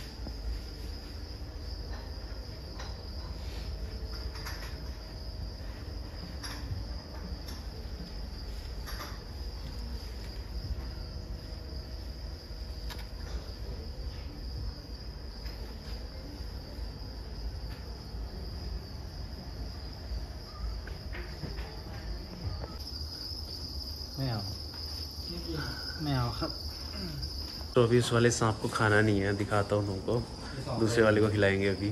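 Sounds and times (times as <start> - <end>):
crickets chirping: 0.0 - 31.9.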